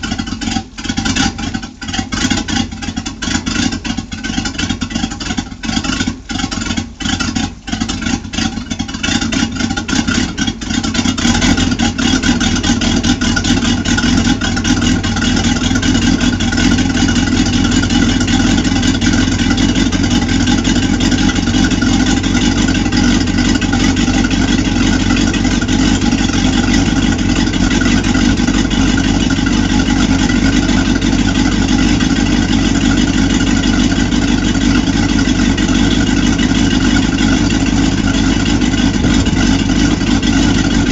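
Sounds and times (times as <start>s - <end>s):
boat engine running: 0.0s - 40.9s
water splashing from exhaust: 0.0s - 40.9s.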